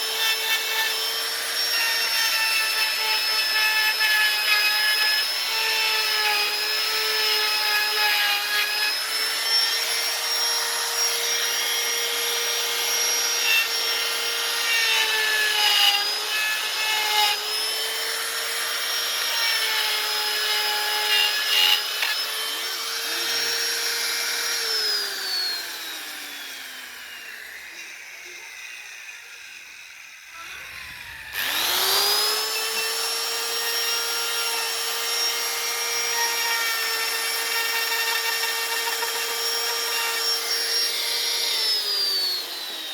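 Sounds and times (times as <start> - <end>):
power tool motor whine: 0.0 - 42.9.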